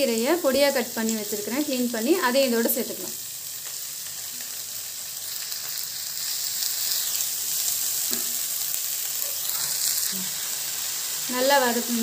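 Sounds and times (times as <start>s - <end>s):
leaves frying in oil: 0.0s - 12.0s.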